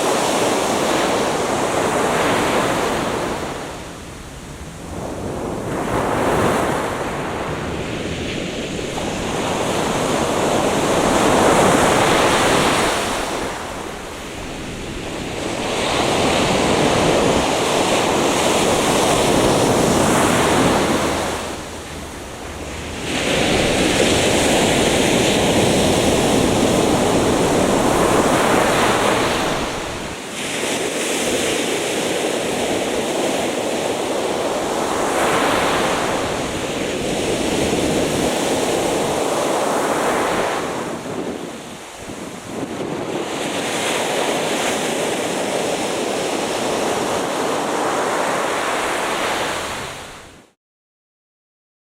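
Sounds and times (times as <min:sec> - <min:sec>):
ocean surf breaking on beach: 0:00.0 - 0:50.6.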